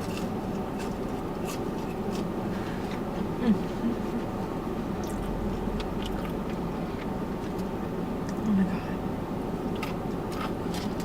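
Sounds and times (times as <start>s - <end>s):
person chewing food: 0.0s - 8.4s, 9.7s - 11.0s.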